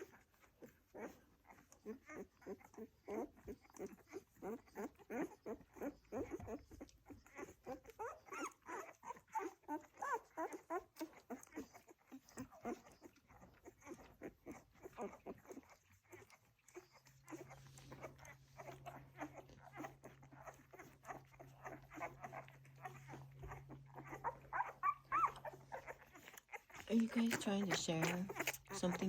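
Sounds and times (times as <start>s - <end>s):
low steady hum: 0.0s - 29.0s
puppies squeaking and whimpering: 0.0s - 29.0s.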